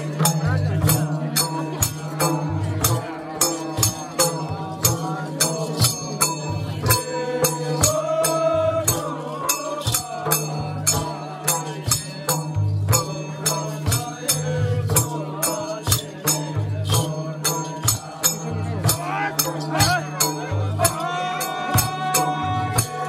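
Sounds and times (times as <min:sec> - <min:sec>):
sharp percussion strikes: 0:00.0 - 0:23.0.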